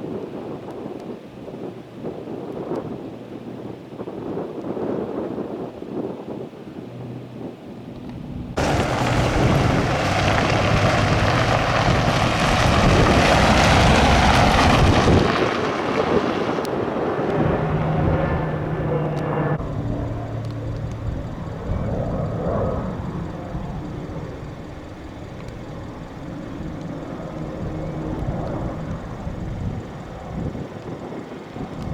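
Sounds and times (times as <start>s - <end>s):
aircraft engine flying overhead: 0.0s - 31.9s.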